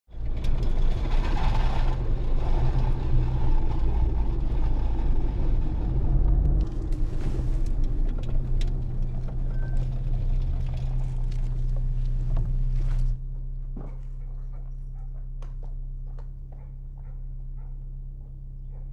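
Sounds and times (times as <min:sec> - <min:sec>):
car interior engine and road drone: 0:00.1 - 0:18.9.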